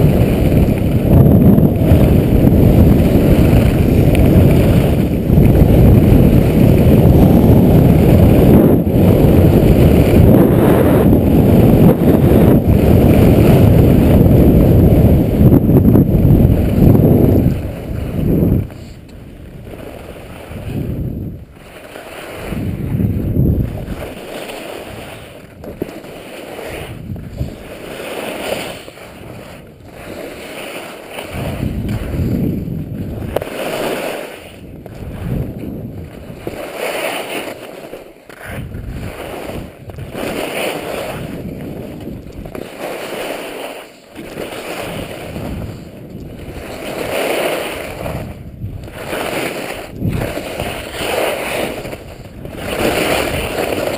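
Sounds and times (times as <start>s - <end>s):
skis scraping over snow: 0.0s - 53.9s
wind noise on microphone: 0.0s - 53.9s.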